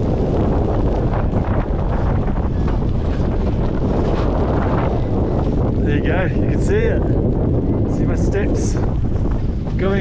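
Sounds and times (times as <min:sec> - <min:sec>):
vehicle engine and tyres rumbling: 0:00.0 - 0:10.0
wind buffeting microphone: 0:00.0 - 0:10.0.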